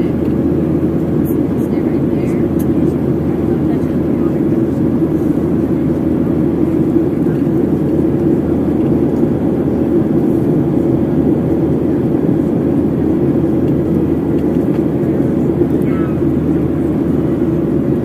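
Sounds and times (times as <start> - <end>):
jet engine roar in cabin: 0.0 - 18.0
rushing airflow: 0.4 - 18.0.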